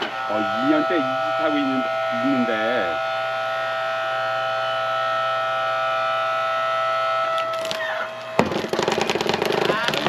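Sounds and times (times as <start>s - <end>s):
log splitter motor whining: 0.0s - 10.0s.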